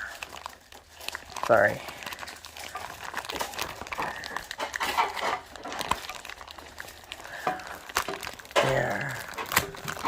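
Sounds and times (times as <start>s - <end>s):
toy packaging rustling: 0.0s - 10.0s.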